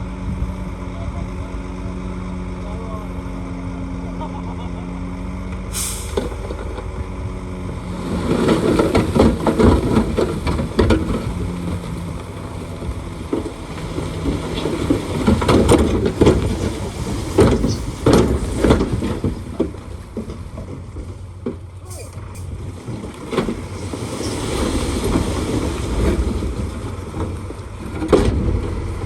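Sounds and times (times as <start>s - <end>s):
bulldozer diesel engine: 0.0s - 29.0s.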